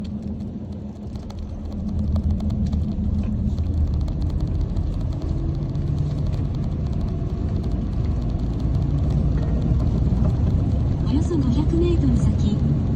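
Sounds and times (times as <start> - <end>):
truck engine and road noise: 0.0 - 12.9.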